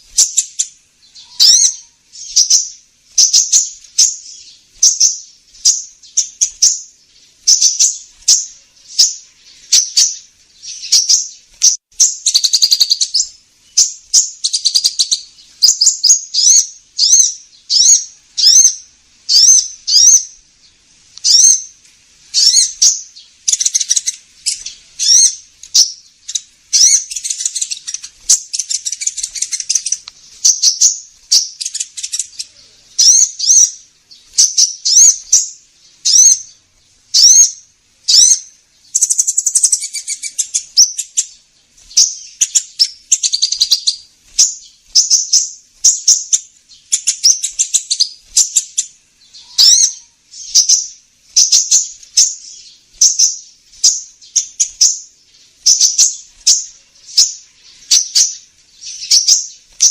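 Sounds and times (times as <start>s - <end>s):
bird chirping and twittering: 0.0s - 59.9s.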